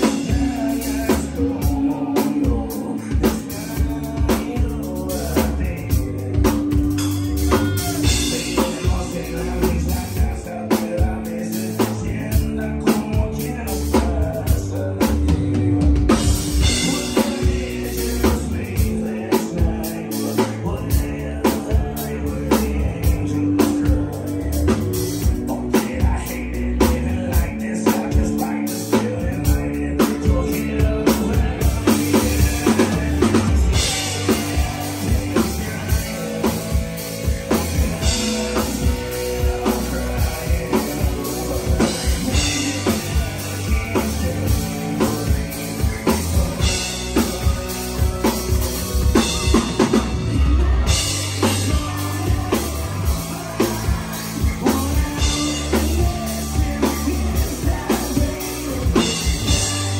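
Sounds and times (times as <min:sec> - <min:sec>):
bass guitar: 0:00.0 - 0:59.9
drum kit beat: 0:00.0 - 0:59.9
electric guitar: 0:00.0 - 0:59.9
live band playing: 0:00.0 - 0:59.9.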